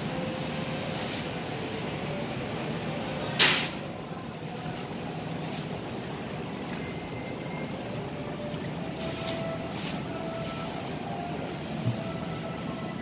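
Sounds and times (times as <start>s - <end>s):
supermarket background noise: 0.0s - 13.0s.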